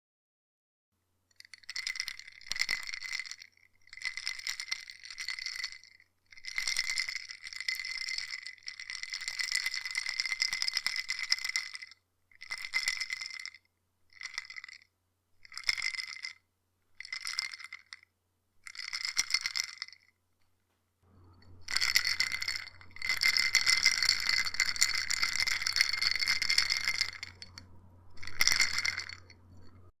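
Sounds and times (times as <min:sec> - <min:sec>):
ice cubes rattling in a cup: 0:01.4 - 0:14.8, 0:15.4 - 0:16.4, 0:17.0 - 0:18.0, 0:18.7 - 0:20.1, 0:21.5 - 0:29.9.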